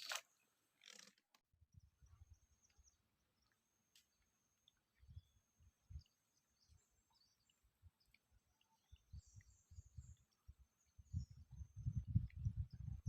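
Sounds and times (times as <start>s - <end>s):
faint bird chirps: 1.7s - 13.0s.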